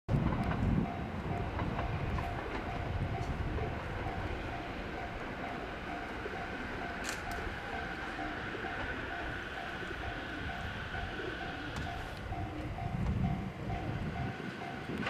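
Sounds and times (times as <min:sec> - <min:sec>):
electric train rumbling: 0:00.1 - 0:15.0
level crossing warning bell: 0:00.6 - 0:15.0.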